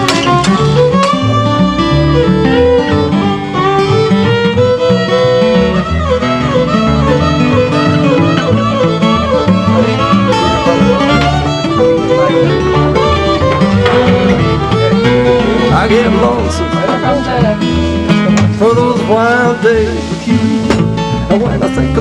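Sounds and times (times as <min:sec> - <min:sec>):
bass beat: 0:00.0 - 0:22.0
fiddle melody: 0:00.0 - 0:22.0
guitar: 0:00.0 - 0:22.0.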